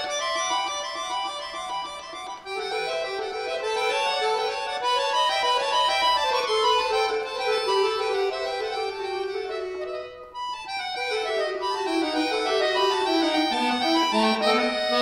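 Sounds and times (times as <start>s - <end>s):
button accordion playing runs: 0.0s - 15.0s.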